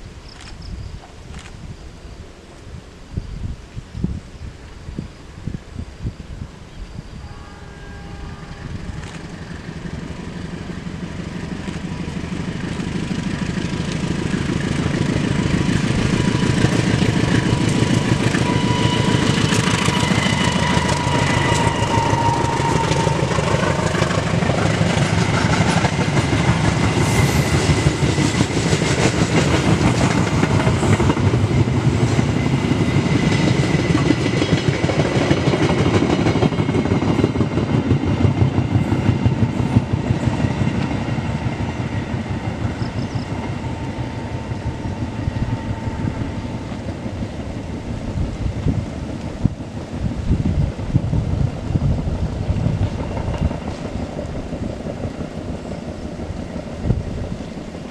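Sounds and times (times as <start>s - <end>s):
diesel locomotive approaching: 4.6s - 57.9s
train wheels clattering on rails: 8.8s - 57.9s.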